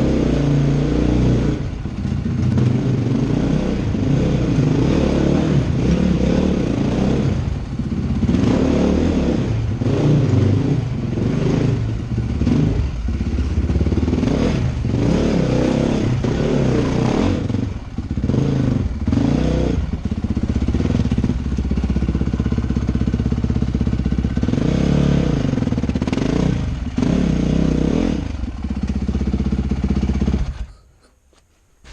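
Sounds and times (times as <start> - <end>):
dirt bike engine revving: 0.0 - 30.8.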